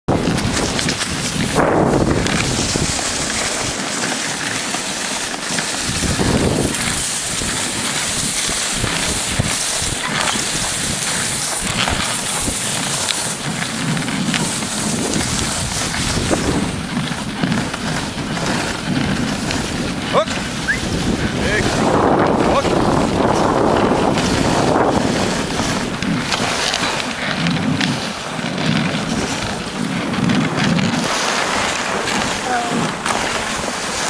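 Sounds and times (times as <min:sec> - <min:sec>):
wind buffeting microphone: 0:00.1 - 0:03.9, 0:05.2 - 0:34.0.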